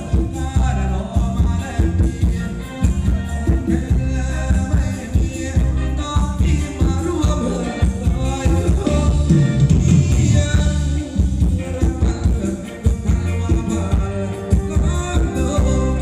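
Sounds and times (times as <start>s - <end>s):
live band dance music: 0.0s - 16.0s.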